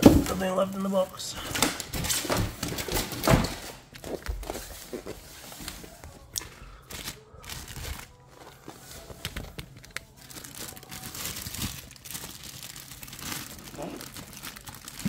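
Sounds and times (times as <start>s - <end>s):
plastic wrap crinkling and tearing: 0.2s - 15.0s.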